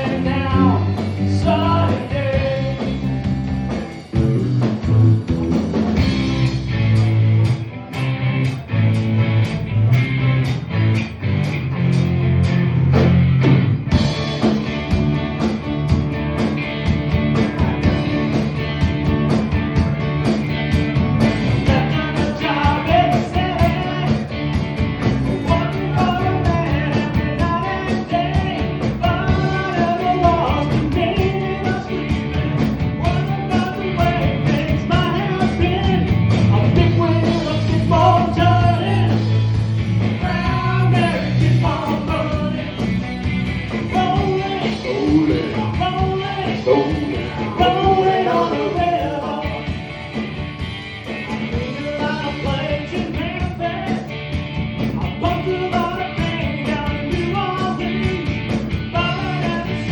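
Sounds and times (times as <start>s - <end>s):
bending lead guitar melody: 0.0s - 59.9s
rock band playing: 0.0s - 59.9s.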